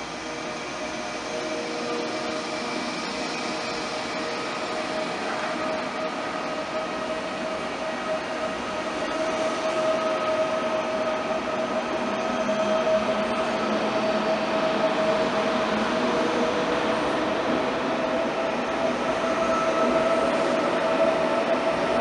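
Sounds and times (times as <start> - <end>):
train rolling with high whine: 0.0 - 22.0.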